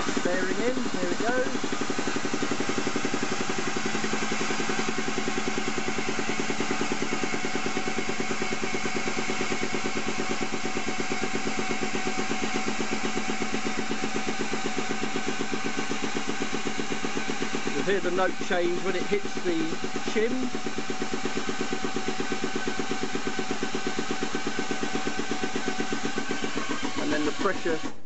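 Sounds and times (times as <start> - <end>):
hydraulic pump pulsing: 0.0 - 28.0.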